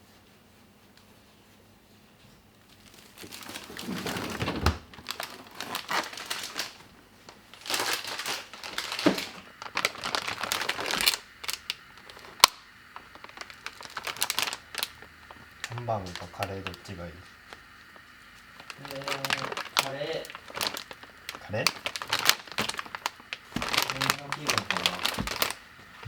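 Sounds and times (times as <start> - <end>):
packaging crinkling and rustling: 2.6 - 26.0.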